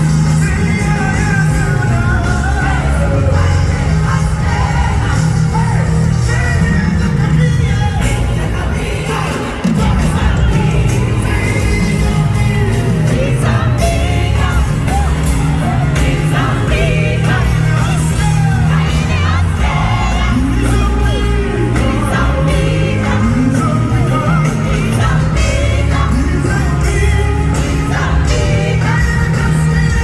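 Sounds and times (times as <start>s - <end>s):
heavy bass: 0.0s - 30.0s.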